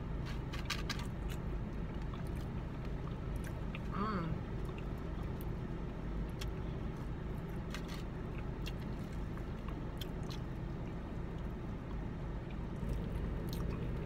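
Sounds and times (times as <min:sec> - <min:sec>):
low car cabin rumble: 0:00.0 - 0:14.0
chewing with smacks and clicks: 0:00.3 - 0:14.0.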